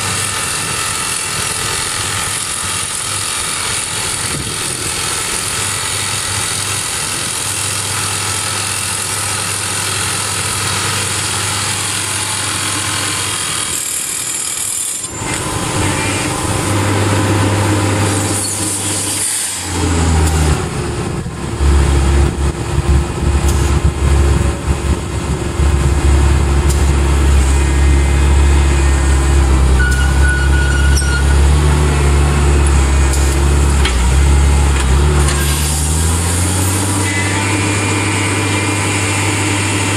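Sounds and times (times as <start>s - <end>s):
drill rig engine running: 0.0s - 39.9s.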